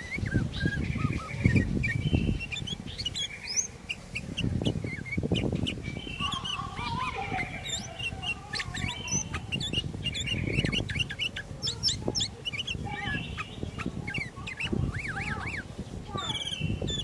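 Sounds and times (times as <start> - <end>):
bulbuls singing: 0.0 - 17.0
low background rumble: 0.0 - 17.0.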